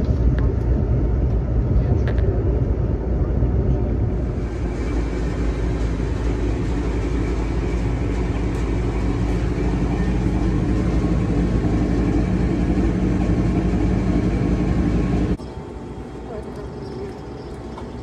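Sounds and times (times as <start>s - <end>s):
train car rumbling on track: 0.0s - 18.0s.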